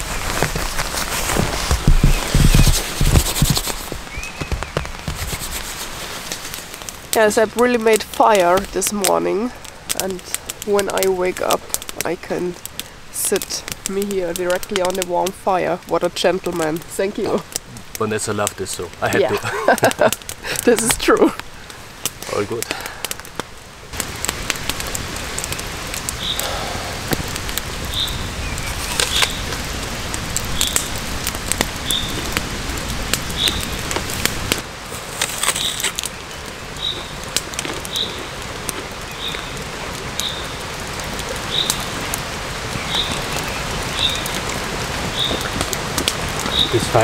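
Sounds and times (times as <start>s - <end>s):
campfire crackling and popping: 0.0s - 47.0s
steady rain falling: 0.0s - 47.0s.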